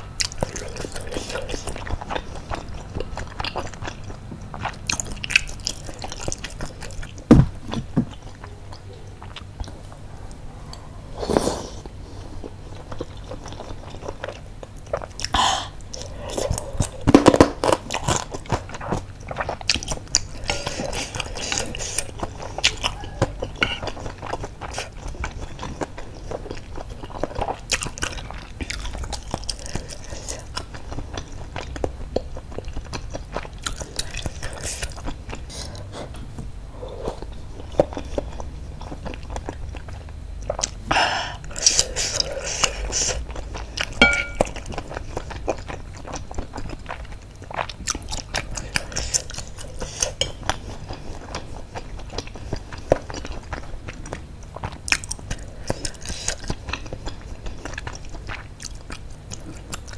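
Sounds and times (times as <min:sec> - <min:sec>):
chewing and biting: 0:00.2 - 0:10.0, 0:11.3 - 0:36.3, 0:36.9 - 0:40.9, 0:41.5 - 0:59.9.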